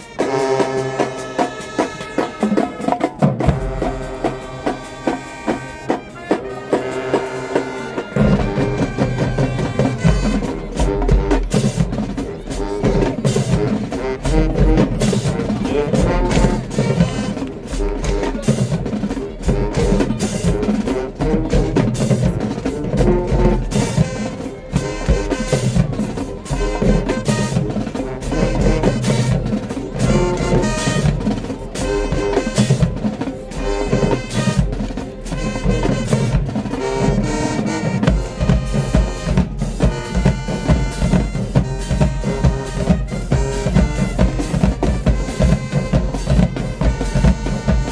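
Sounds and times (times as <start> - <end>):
drumline beating: 0.0 - 47.9
marching band playing: 0.0 - 47.9.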